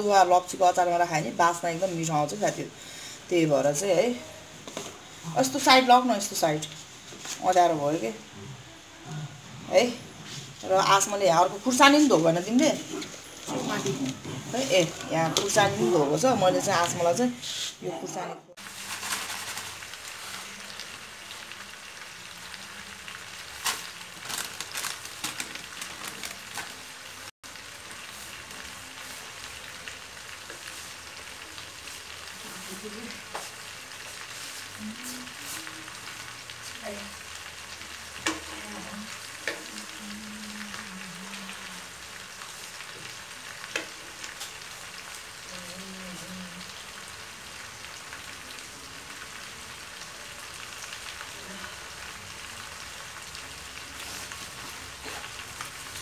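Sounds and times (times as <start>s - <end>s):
peels sizzling in a wok: 0.0s - 56.0s.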